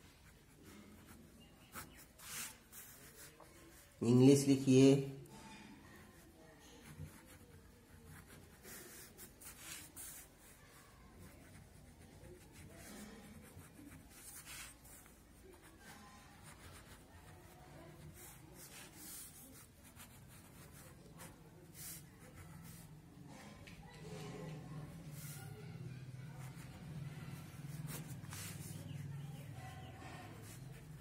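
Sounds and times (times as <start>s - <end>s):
pen scratching on paper: 0.0s - 4.0s, 6.1s - 31.0s.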